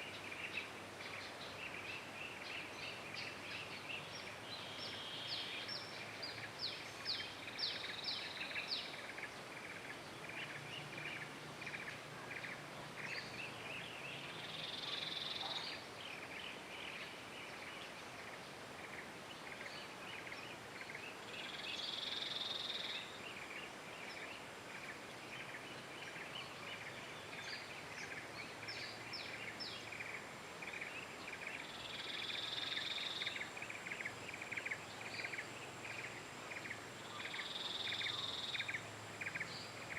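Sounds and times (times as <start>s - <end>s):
chorus of bird and insect chirps: 0.0s - 39.9s.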